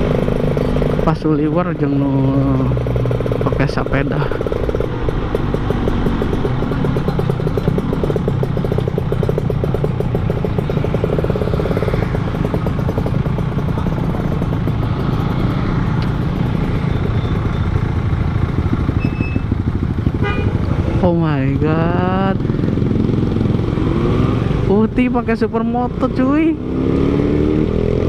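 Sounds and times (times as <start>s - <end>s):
two-stroke motorcycle engine cruising: 0.0s - 28.0s.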